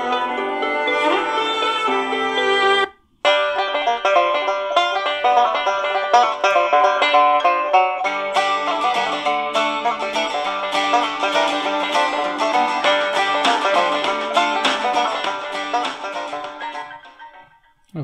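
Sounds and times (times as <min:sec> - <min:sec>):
plucked-string music on radio: 0:00.0 - 0:17.8.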